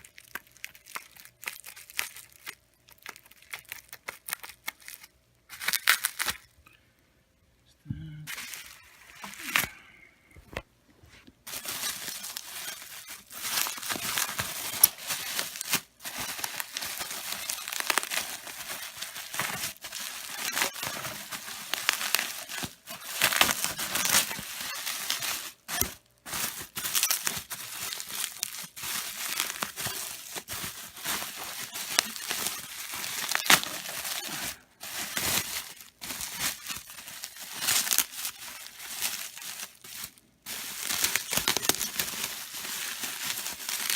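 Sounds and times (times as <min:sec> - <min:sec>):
packing material crinkling and tearing: 0:00.0 - 0:06.6, 0:08.3 - 0:09.8, 0:11.4 - 0:43.9.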